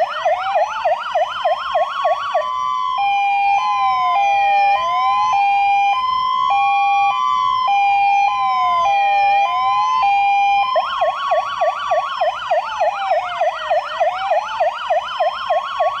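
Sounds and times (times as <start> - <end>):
fire engine siren wailing: 0.0 - 16.0
two-tone siren yelping: 0.0 - 16.0.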